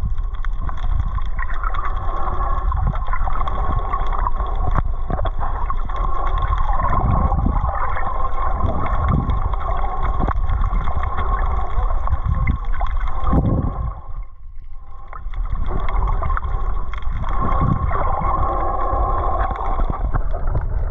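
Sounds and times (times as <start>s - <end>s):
underwater boat machinery hum: 0.0s - 20.9s
water gurgling: 0.0s - 20.9s.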